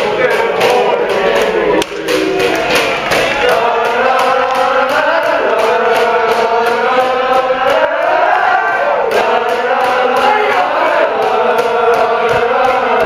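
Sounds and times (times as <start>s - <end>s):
crowd singing in unison: 0.0s - 13.0s
steady drum beat: 0.0s - 13.0s.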